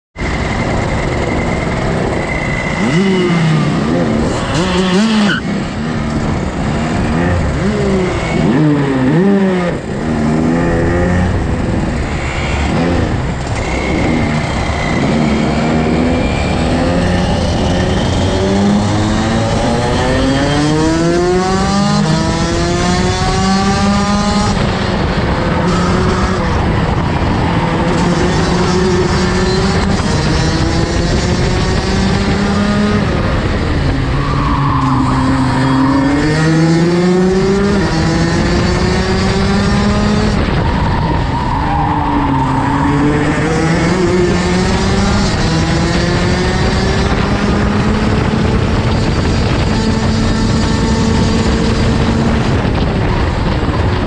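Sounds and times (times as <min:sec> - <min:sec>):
kart engine accelerating and braking: 0:00.2 - 0:54.0.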